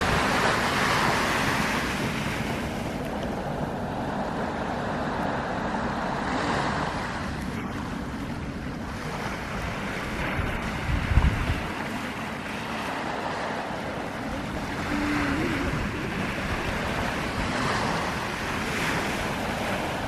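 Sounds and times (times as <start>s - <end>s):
sea waves washing onto beach: 0.0s - 20.0s
wind rumble on microphone: 0.0s - 20.0s.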